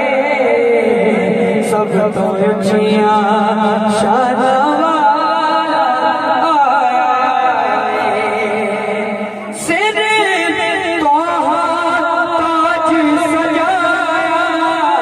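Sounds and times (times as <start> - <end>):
boy singing into a microphone: 0.0 - 15.0.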